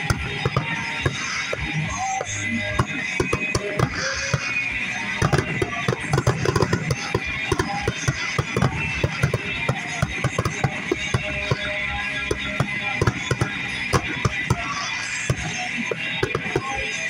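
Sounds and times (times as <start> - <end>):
fireworks bangs and crackles: 0.0 - 17.0
music playing in a car: 0.0 - 17.0.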